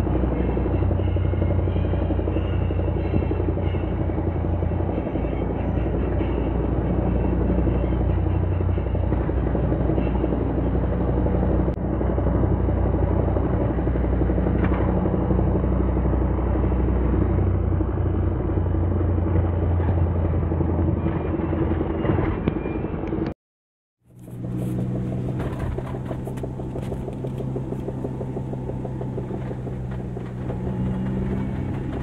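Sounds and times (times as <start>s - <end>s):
car engine and drivetrain drone: 0.0s - 23.4s, 24.1s - 32.0s.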